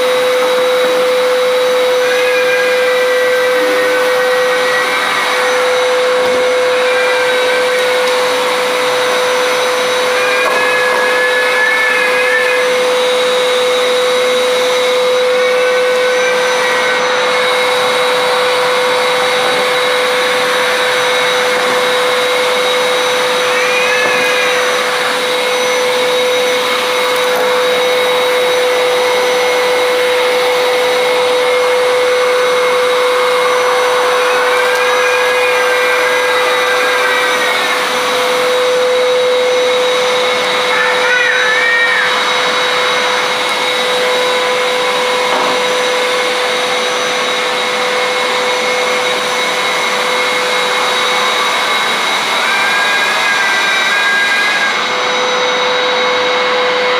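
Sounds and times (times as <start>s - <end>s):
vacuum cleaner whining: 0.0s - 56.9s.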